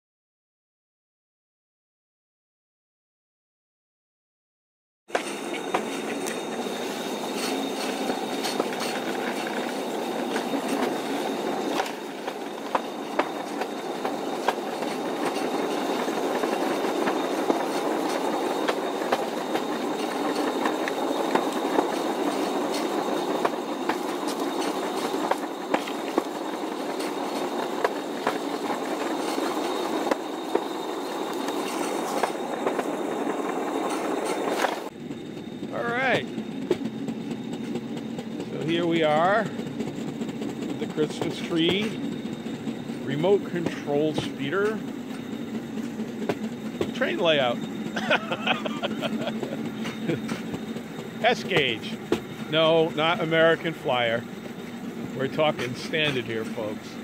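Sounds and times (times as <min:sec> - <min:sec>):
wheels clicking over rail joints: 0:05.1 - 0:35.0, 0:36.0 - 0:57.0
thin high whine: 0:05.1 - 0:57.0
train wheels rattling on track: 0:05.1 - 0:57.0.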